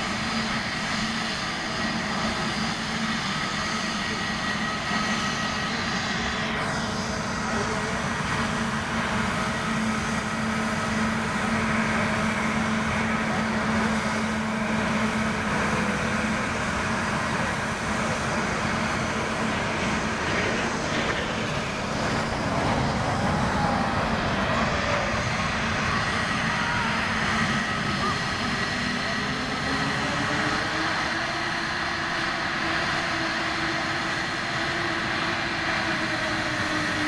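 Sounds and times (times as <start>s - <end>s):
jet engines idling: 0.0s - 37.0s.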